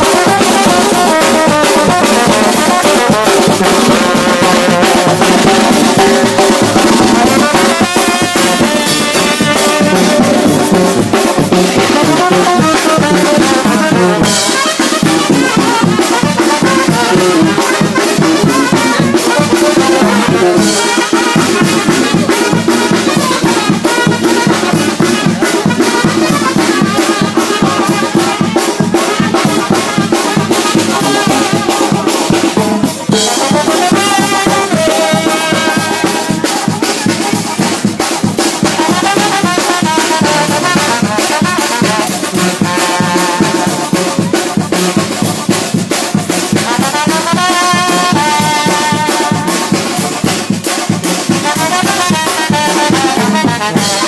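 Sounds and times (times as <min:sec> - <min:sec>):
drums: 0:00.0 - 0:54.0
trumpets and trombones: 0:00.0 - 0:54.0.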